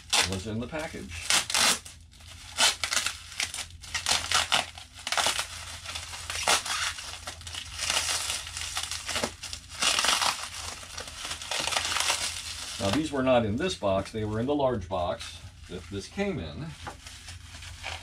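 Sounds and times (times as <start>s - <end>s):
plastic packaging rustling: 0.0s - 13.3s, 15.5s - 18.0s.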